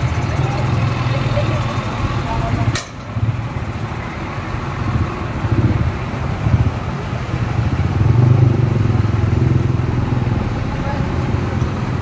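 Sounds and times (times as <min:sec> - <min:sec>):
truck diesel engine rolling past: 0:00.0 - 0:12.0.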